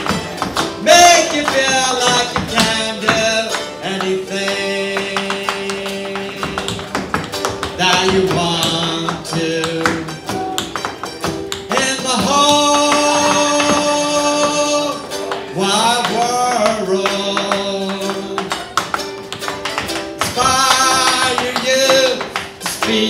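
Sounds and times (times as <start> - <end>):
tap shoes striking floor: 0.0 - 23.0
upbeat instrumental music: 0.0 - 23.0.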